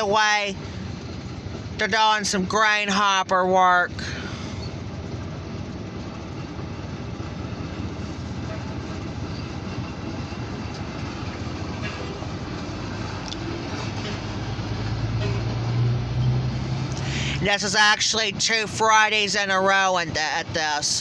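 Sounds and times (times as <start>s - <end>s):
diesel locomotives rumbling: 0.0s - 21.0s.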